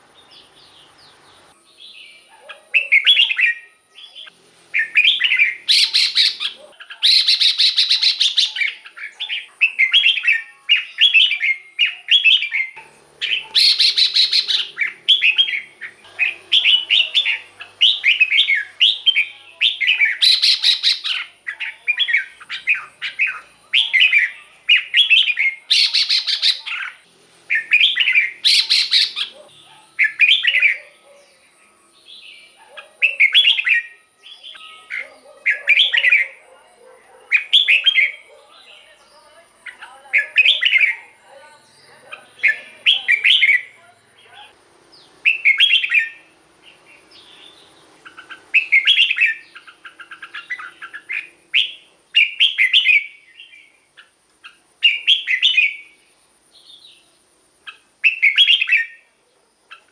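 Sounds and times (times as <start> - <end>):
bulbul chirping song: 0.0 - 59.9.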